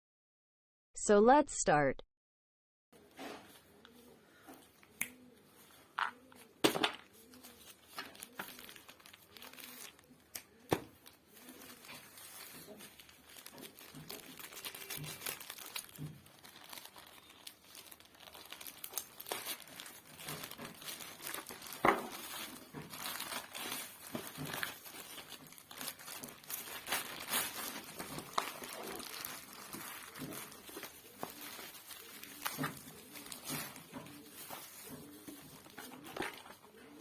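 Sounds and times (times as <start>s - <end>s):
packaging crinkling and rustling: 5.6s - 37.0s.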